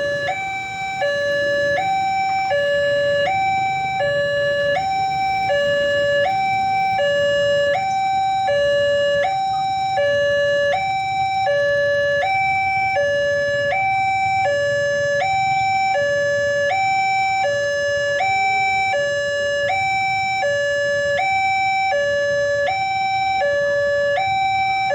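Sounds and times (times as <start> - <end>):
two-tone crossing alarm: 0.0 - 24.9.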